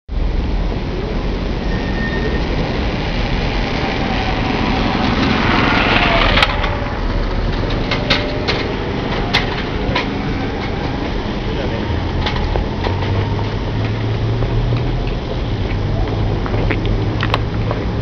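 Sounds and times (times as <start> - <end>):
street traffic rumble: 0.1 - 18.0
vehicle passing: 0.3 - 18.0.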